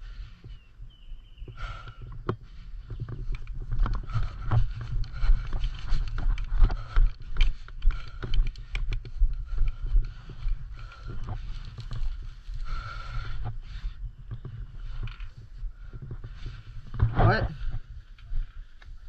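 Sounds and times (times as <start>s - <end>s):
footsteps: 1.6s - 19.0s.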